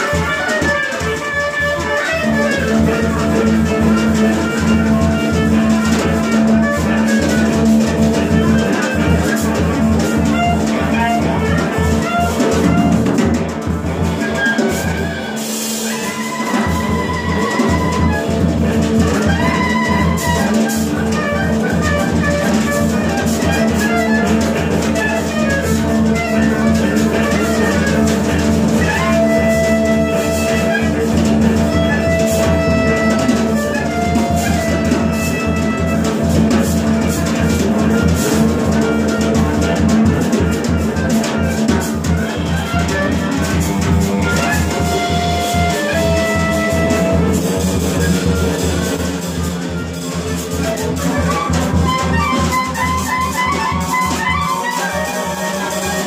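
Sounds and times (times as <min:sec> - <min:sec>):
drum kit: 0:00.0 - 0:56.0
wind instrument playing: 0:00.0 - 0:56.0
amplified electric guitar: 0:00.1 - 0:56.0.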